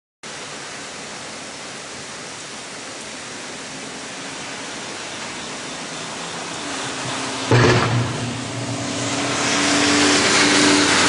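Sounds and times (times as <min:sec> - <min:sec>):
heavy rain and wind hiss: 0:00.2 - 0:11.0.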